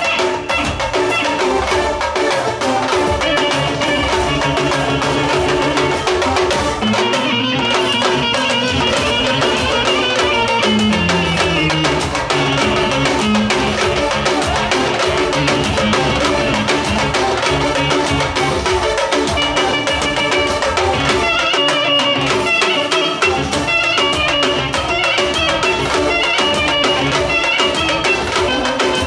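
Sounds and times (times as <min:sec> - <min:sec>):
clarinet melody: 0:00.0 - 0:29.0
steady drum beat: 0:00.0 - 0:29.0.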